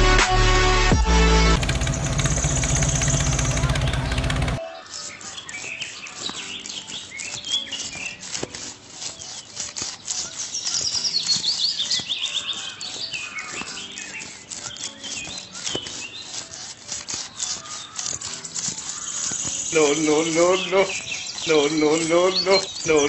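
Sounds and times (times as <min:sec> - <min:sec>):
birds chirping: 0:01.6 - 0:08.3, 0:10.3 - 0:23.0.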